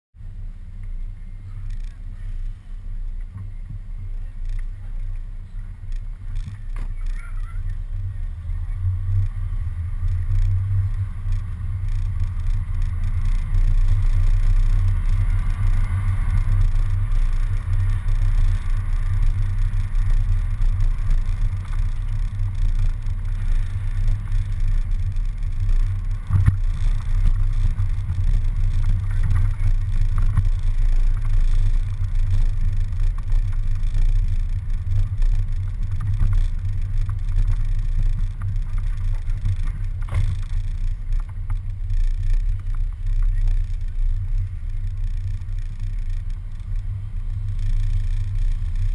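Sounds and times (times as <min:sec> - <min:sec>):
bus engine rumble: 0:00.2 - 0:48.9.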